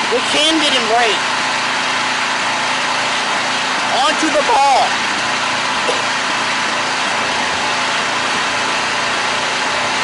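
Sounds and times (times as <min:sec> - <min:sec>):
pressure washer engine idling: 0:00.0 - 0:10.0.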